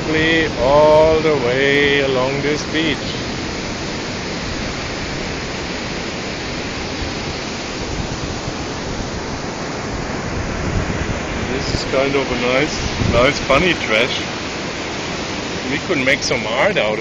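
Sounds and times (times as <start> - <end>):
sea surf: 0.0 - 17.0
wind on microphone: 0.0 - 17.0.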